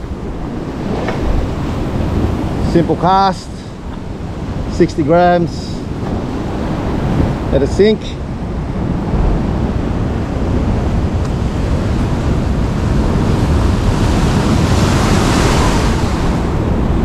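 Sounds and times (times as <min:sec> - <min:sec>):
ocean waves washing over rocks: 0:00.0 - 0:17.0
wind buffeting microphone: 0:00.0 - 0:17.0.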